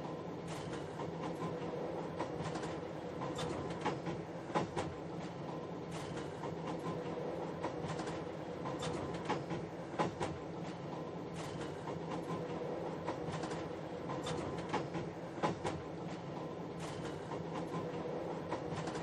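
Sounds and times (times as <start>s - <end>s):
train engine drone: 0.0s - 19.0s
train wheels clicking over rail joints: 0.0s - 19.0s.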